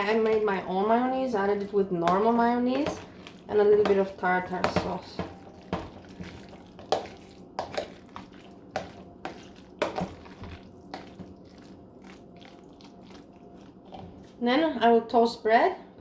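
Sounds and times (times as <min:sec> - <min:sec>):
wet squishes of mixing: 0:00.0 - 0:15.0.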